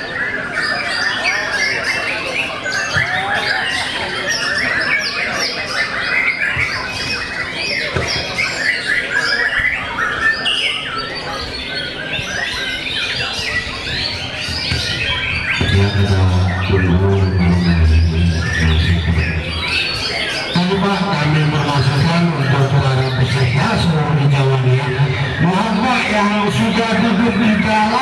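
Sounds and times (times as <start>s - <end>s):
birds singing whistles and trills: 0.0s - 28.0s.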